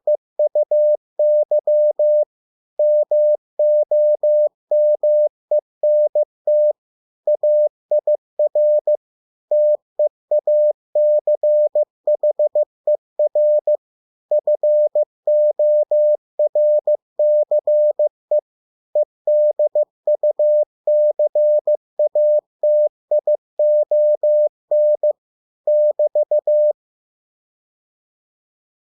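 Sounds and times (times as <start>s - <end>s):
morse code beeps: 0.4s - 18.4s, 19.0s - 25.1s, 25.7s - 26.8s.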